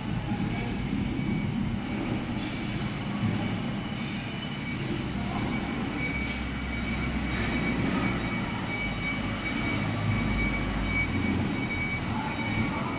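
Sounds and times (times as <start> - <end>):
machinery hum and rumble: 0.0 - 12.9.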